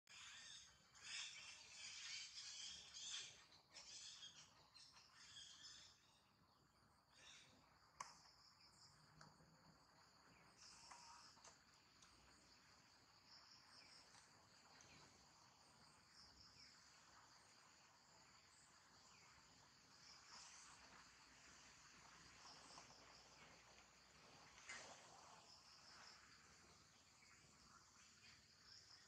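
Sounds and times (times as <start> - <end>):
high-pitched insect chorus: 0.1 - 29.0.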